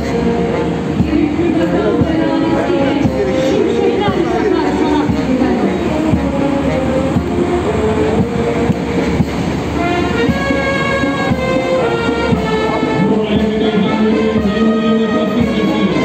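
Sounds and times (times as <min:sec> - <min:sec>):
music with long held notes: 0:00.0 - 0:16.0
steady background din: 0:00.0 - 0:16.0.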